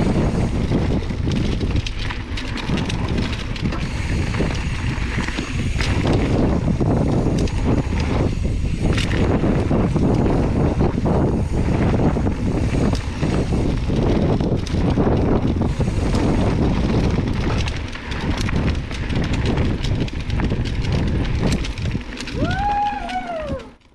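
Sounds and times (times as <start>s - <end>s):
tyres rolling over dirt and rocks: 0.0s - 23.8s
wind buffeting microphone: 0.0s - 23.8s
bike rattling over bumps: 0.0s - 23.9s.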